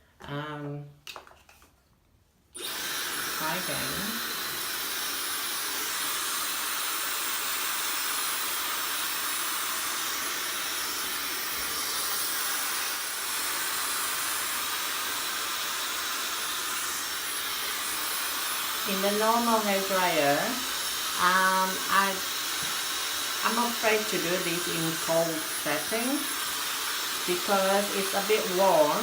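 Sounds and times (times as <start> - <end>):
hair dryer blowing: 2.6 - 29.0.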